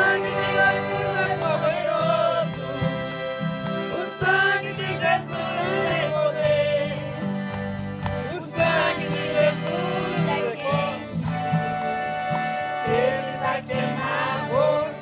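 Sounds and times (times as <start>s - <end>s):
accordion: 0.0s - 15.0s
strummed acoustic guitar: 0.0s - 15.0s.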